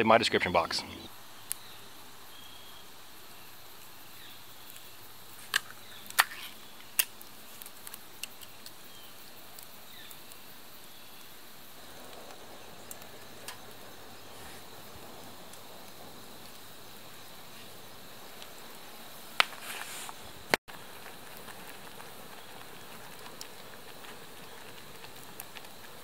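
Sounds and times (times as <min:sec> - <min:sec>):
faint steady hiss: 0:00.0 - 0:26.0
small ticks: 0:03.7 - 0:19.9, 0:20.7 - 0:26.0.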